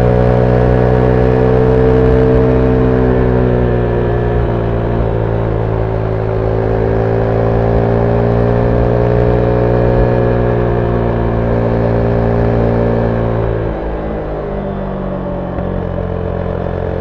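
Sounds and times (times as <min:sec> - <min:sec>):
motorcycle engine riding: 0:00.0 - 0:17.0.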